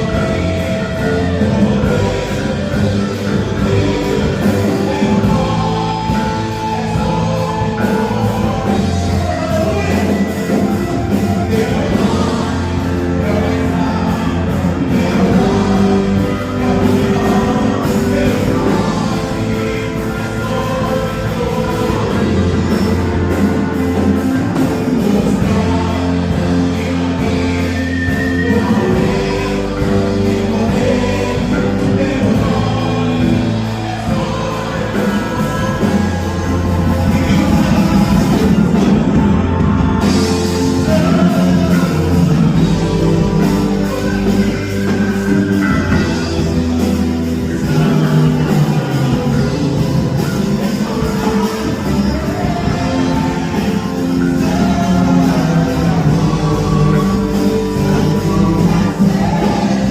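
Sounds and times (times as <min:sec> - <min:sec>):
gospel band playing: 0:00.0 - 0:59.9
person singing: 0:00.0 - 0:59.9.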